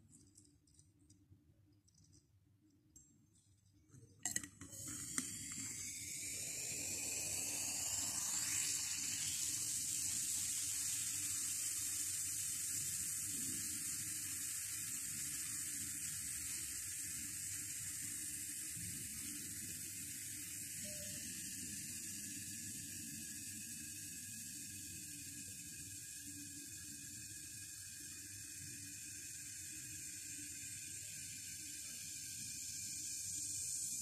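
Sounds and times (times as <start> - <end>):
fizzing bubbles hissing: 4.2 - 34.0.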